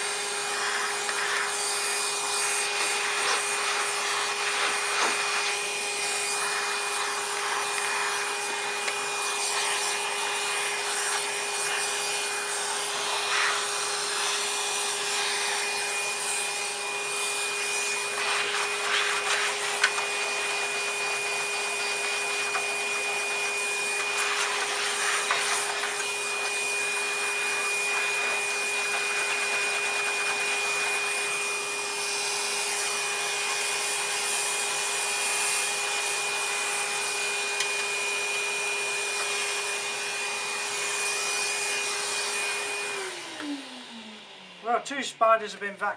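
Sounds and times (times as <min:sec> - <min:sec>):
vacuum cleaner whining: 0:00.0 - 0:45.9.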